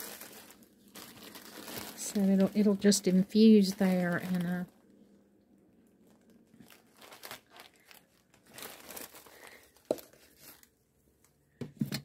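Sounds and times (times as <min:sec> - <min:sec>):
rustling and crinkling: 0:00.0 - 0:05.0, 0:05.8 - 0:11.8.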